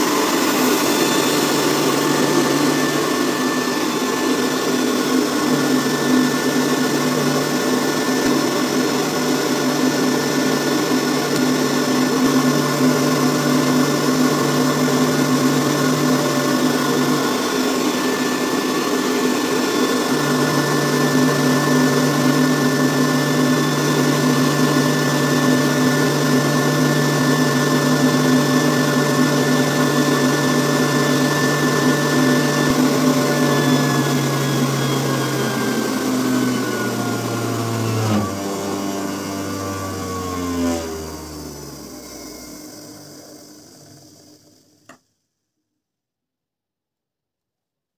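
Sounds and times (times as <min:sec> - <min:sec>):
electric blower motor whining: 0:00.0 - 0:45.0.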